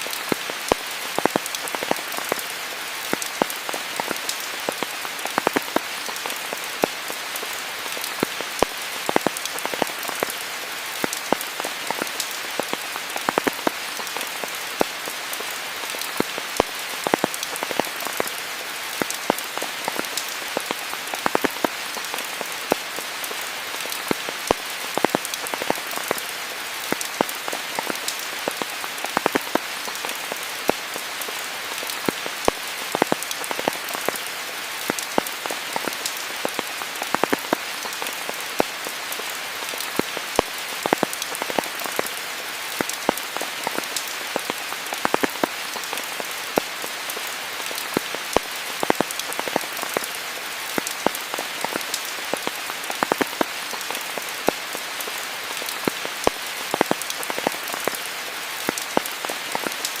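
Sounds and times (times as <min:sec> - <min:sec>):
raindrops pattering on surfaces: 0:00.0 - 1:00.0
steady rain hiss: 0:00.0 - 1:00.0.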